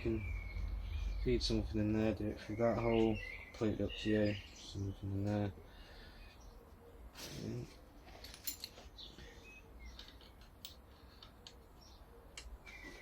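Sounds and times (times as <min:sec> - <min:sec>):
faint bird chirps: 0:00.0 - 0:07.7, 0:08.9 - 0:10.4, 0:11.0 - 0:13.0.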